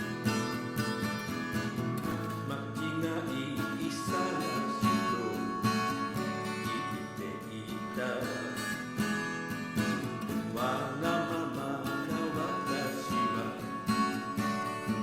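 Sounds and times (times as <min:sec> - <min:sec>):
song with acoustic guitar: 0:00.0 - 0:15.0.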